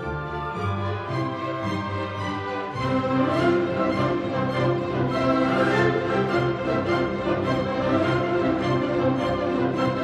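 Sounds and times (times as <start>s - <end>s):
orchestral music with strings: 0.0s - 10.0s.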